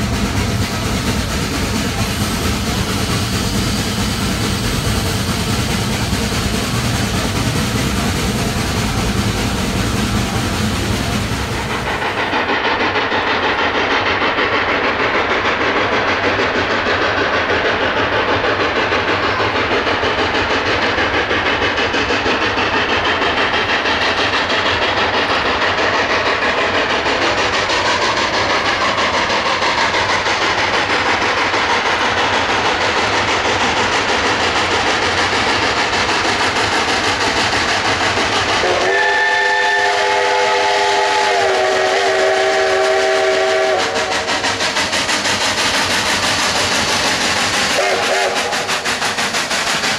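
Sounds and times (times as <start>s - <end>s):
steam locomotive exhaust and hiss: 0.0s - 49.9s
train wheels rolling on rails: 0.0s - 49.9s.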